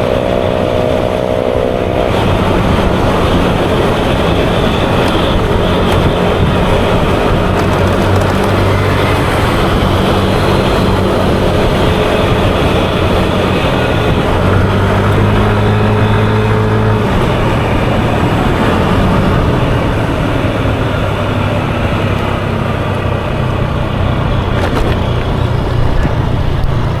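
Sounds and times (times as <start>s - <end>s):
scooter engine running: 0.0s - 27.0s
wind and road noise: 0.0s - 27.0s.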